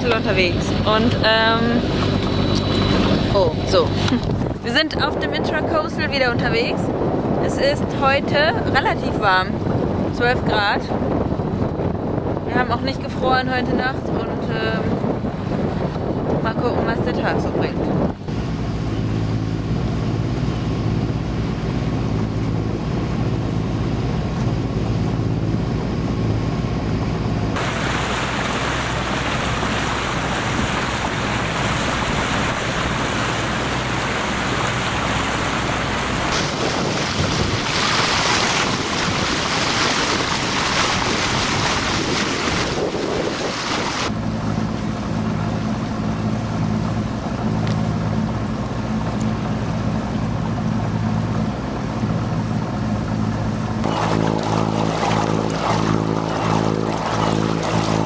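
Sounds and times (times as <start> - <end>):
diesel engine hum: 0.0 - 13.6, 17.9 - 58.0
wind and water rushing along hull: 0.0 - 58.0.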